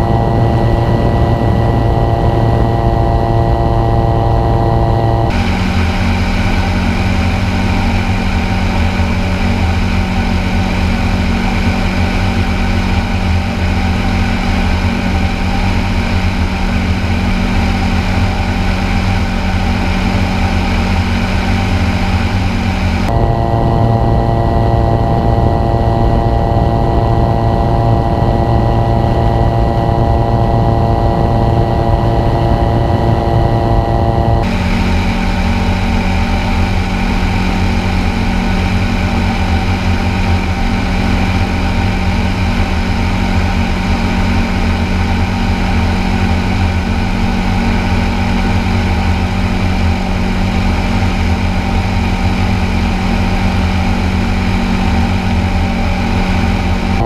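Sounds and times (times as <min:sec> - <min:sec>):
aircraft engine and propeller droning: 0:00.0 - 0:57.0.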